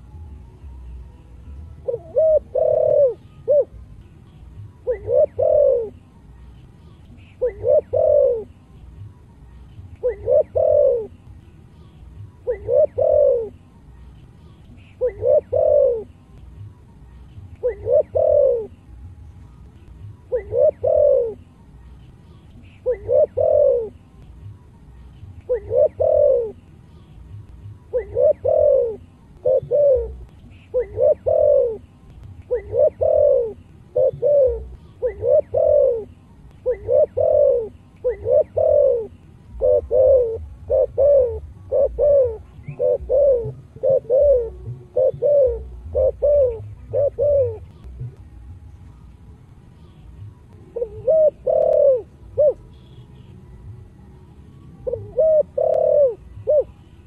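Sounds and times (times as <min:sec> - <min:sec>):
dove cooing: 0:01.7 - 0:18.9, 0:19.8 - 0:48.2, 0:49.8 - 0:53.8, 0:54.8 - 0:57.0.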